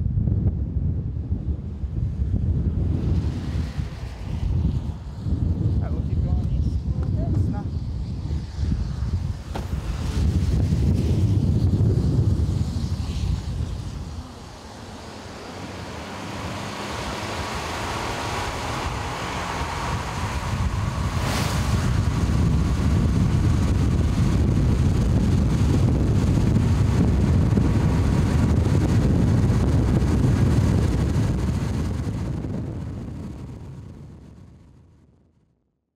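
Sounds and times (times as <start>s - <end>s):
wind gusting on microphone: 0.0s - 34.8s.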